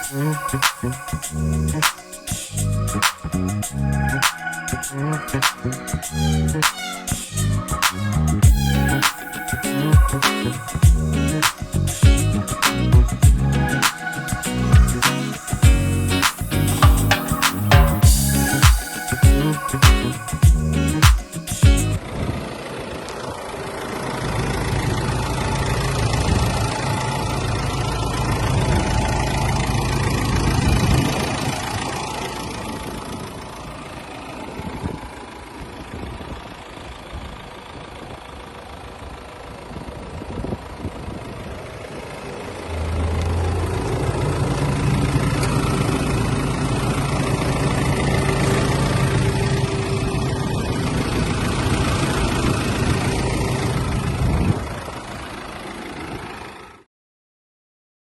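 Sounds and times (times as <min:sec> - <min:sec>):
diesel engine idling: 0:00.0 - 0:56.8.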